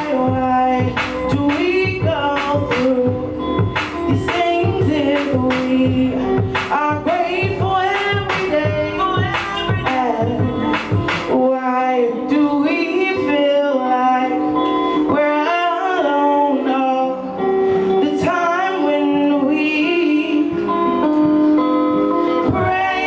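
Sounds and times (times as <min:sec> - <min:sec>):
instrumental accompaniment: 0:00.0 - 0:23.0
person singing: 0:00.0 - 0:23.0.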